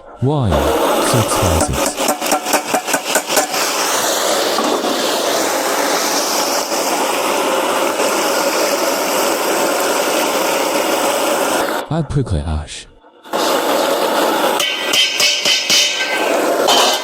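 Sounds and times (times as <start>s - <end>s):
food sizzling in a wok: 0.6s - 11.8s, 13.3s - 17.0s.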